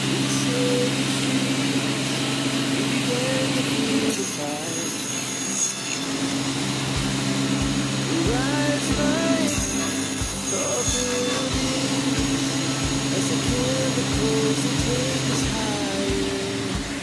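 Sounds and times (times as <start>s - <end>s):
table saw cutting wood: 0.0s - 17.0s.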